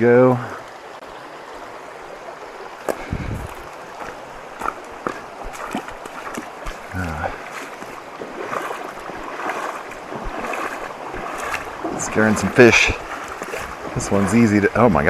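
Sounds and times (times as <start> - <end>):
river water over rocks: 0.0 - 15.0
footsteps on wet stones: 2.8 - 15.0.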